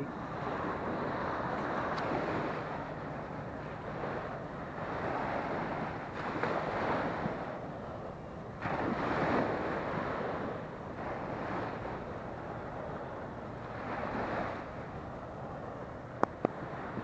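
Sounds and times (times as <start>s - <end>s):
waves washing up a shore: 0.0s - 17.0s
wind buffeting microphone: 0.0s - 17.0s.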